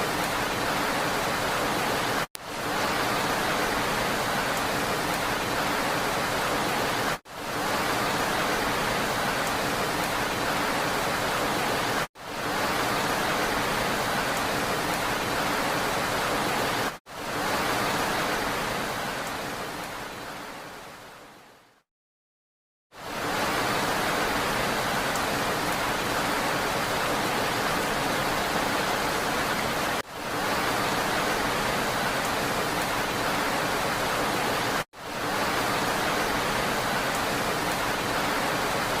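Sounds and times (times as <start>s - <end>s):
steady rain: 0.0s - 21.8s, 22.9s - 39.0s.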